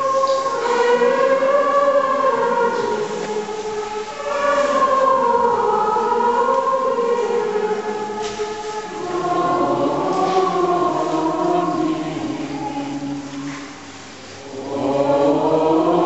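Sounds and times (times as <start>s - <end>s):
female choir chanting: 0.0s - 16.0s.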